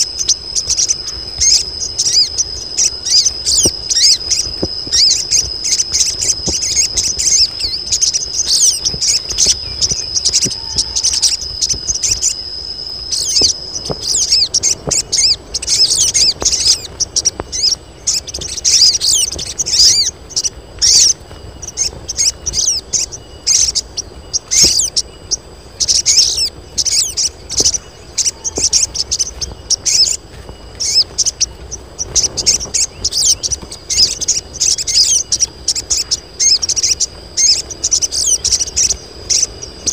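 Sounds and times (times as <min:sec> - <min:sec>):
birds chattering high-pitched chirps: 0:00.0 - 0:39.9
steady high whine: 0:00.0 - 0:39.9.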